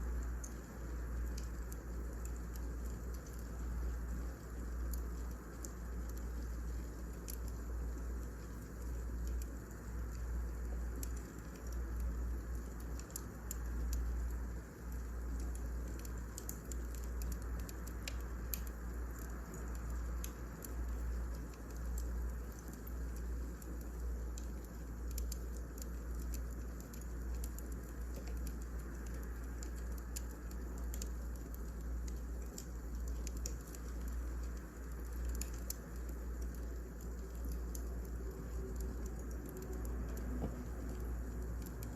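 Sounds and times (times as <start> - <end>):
low fire rumble: 0.0 - 41.9
wood fire crackling: 0.0 - 41.9.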